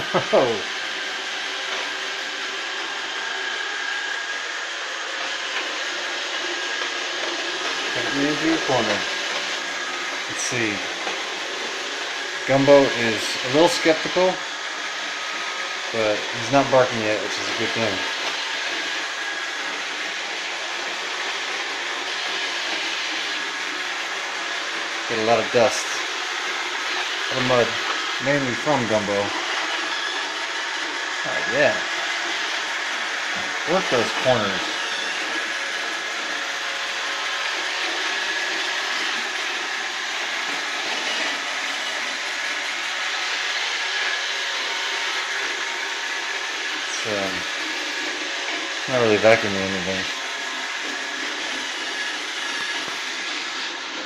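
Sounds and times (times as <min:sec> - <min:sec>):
robot vacuum cleaner running: 0:00.0 - 0:54.0.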